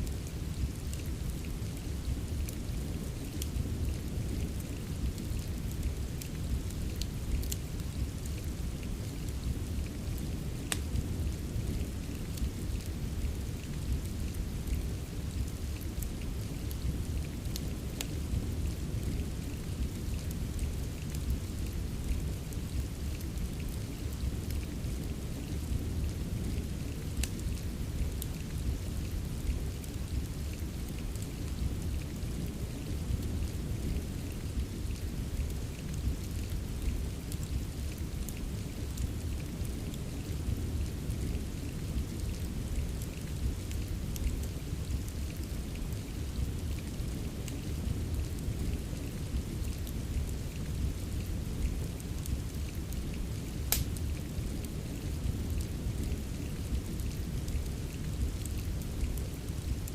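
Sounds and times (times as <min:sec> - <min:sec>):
fireplace crackling: 0:00.0 - 0:59.9
soft rain hissing: 0:00.0 - 0:59.9.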